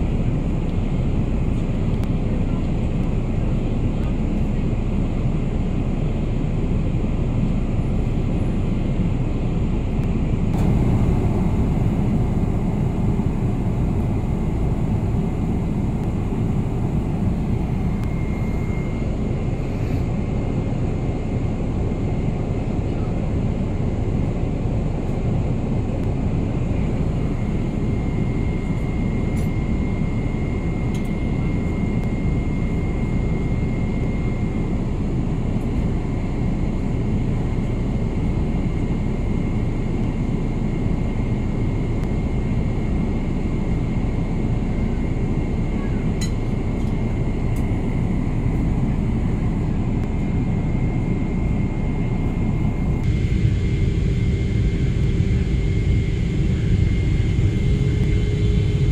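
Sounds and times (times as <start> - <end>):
airliner cabin noise: 0.1 - 58.9.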